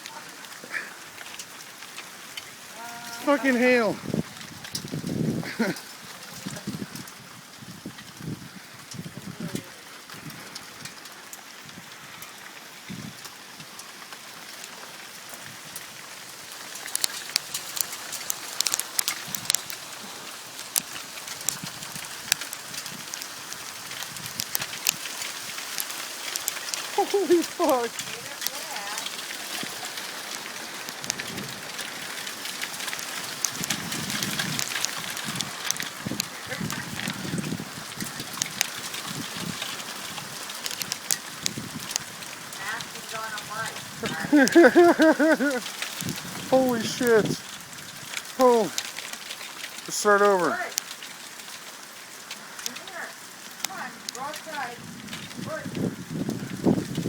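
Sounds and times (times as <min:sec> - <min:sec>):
hail pelting the ground: 0:00.0 - 0:57.0.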